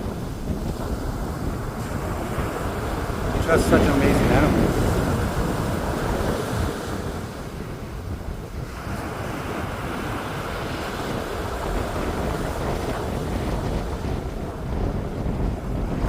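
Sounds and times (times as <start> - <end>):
sea surf: 0.0 - 16.0
wind rumbling on microphone: 0.0 - 16.0.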